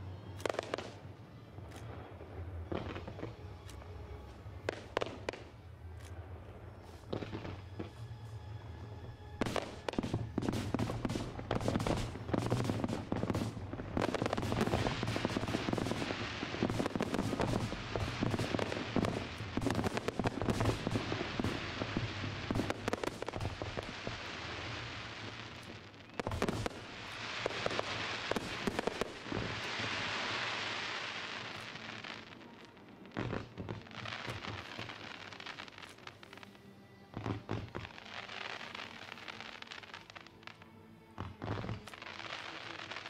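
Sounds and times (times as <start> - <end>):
fireworks crackling and popping: 0.0 - 43.0
steady hiss: 1.9 - 43.0.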